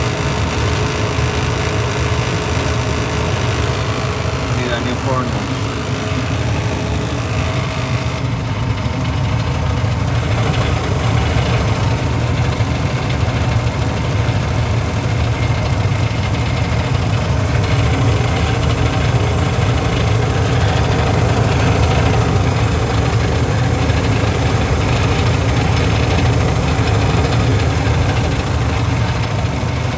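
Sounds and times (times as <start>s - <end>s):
furnace inducer motor running roughly: 0.0s - 29.9s.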